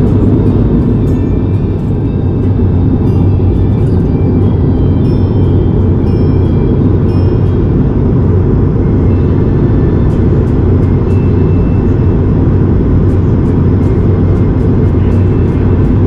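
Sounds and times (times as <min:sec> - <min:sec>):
airliner cabin jet engine roar: 0:00.0 - 0:16.0.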